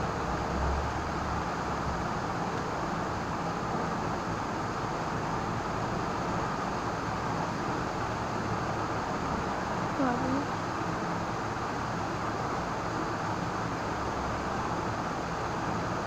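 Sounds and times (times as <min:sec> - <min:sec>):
background rumble and hiss: 0:00.0 - 0:16.0.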